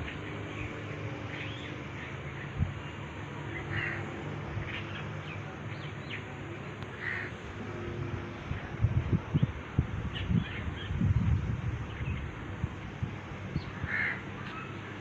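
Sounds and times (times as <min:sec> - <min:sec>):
birds calling: 0:00.0 - 0:15.0
steady low hum: 0:00.0 - 0:15.0.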